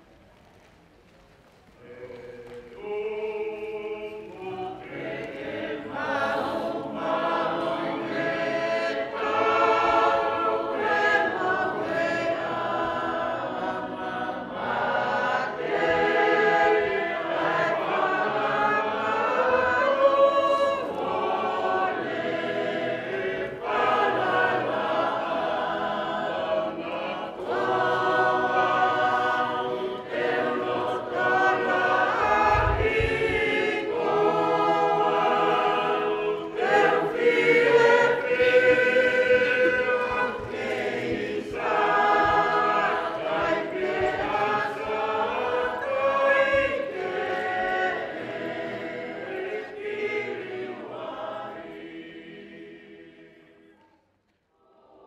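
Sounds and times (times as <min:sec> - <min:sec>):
congregation singing a hymn: 0:01.8 - 0:53.8.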